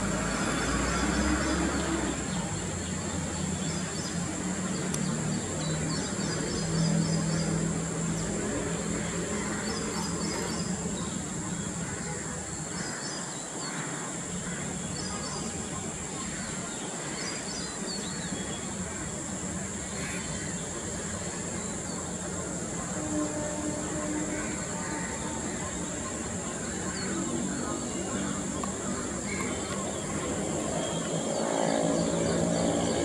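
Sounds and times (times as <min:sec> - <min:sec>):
low rumble of distant traffic: 0:00.0 - 0:33.0.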